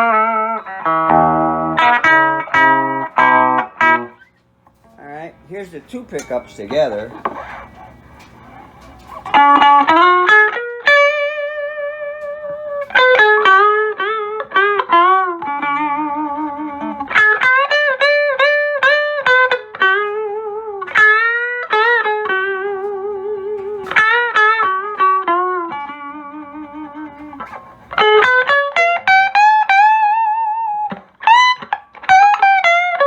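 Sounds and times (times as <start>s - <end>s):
electric guitar lead line: 0.0s - 33.0s.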